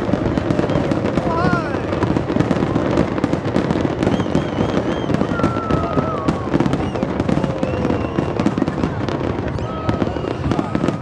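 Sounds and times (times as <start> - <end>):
firework whistles: 0.0 - 11.0
fireworks bangs and crackles: 0.0 - 11.0.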